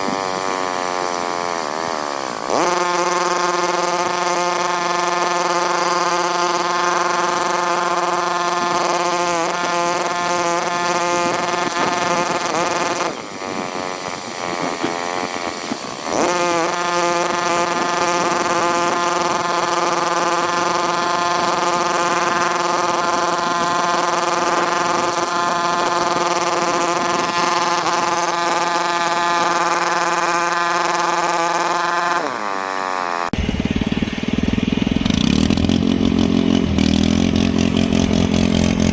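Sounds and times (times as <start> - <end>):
electric gear motors whining: 0.0 - 38.9.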